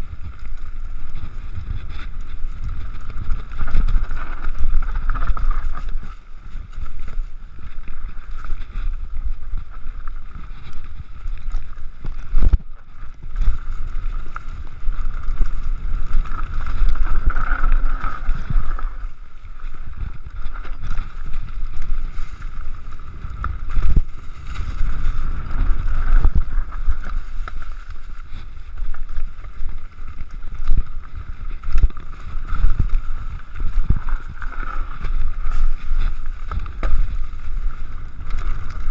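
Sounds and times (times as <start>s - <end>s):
bike tyres and frame rattling: 0.0s - 38.9s
wind buffeting microphone: 0.0s - 38.9s.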